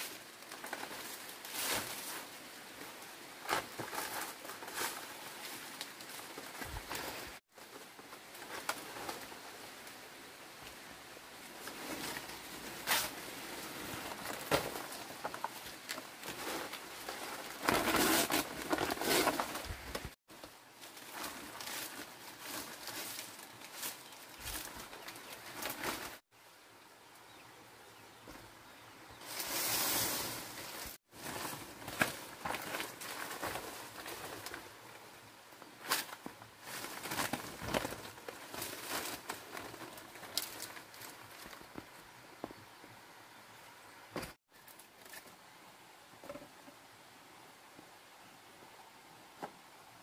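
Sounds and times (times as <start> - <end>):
dry palm fronds rustling: 0.0 - 26.3, 29.2 - 42.6, 44.2 - 45.4.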